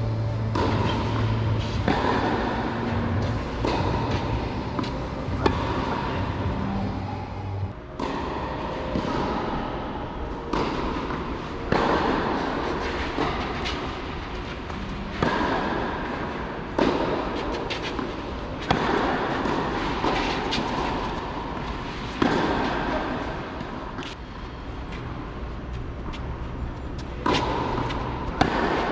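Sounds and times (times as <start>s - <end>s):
steady background noise: 0.0s - 28.9s
tennis ball hit with rackets: 0.2s - 7.0s, 8.0s - 24.2s, 27.0s - 28.9s.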